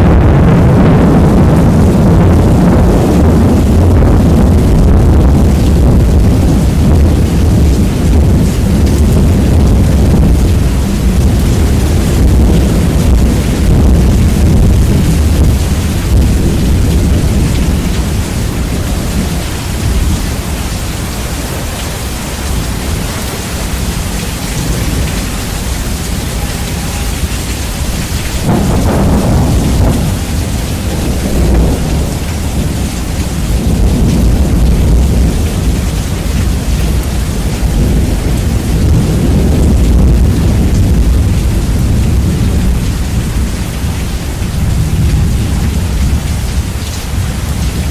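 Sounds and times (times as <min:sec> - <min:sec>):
rolling thunder: 0:00.0 - 0:47.9
steady rain: 0:00.0 - 0:47.9.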